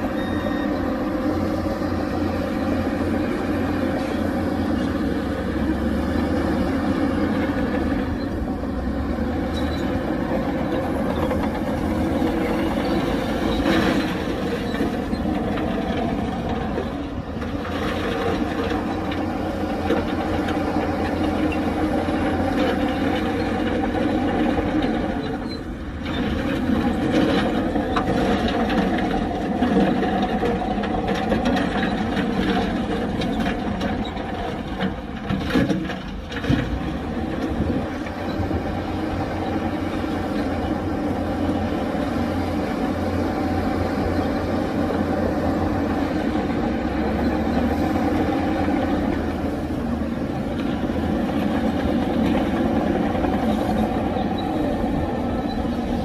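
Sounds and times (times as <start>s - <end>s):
diesel earthmoving machinery running: 0.0s - 56.0s.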